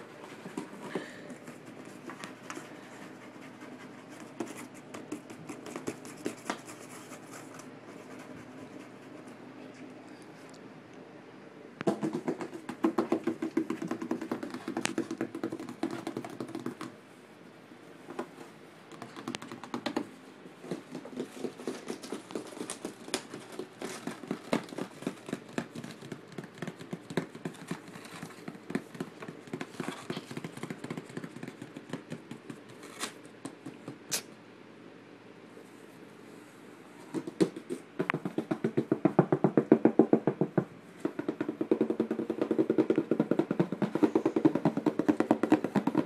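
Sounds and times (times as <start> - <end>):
scratching and tapping on cardboard: 0.2 - 9.2, 11.8 - 17.0, 18.9 - 34.2, 37.1 - 46.0.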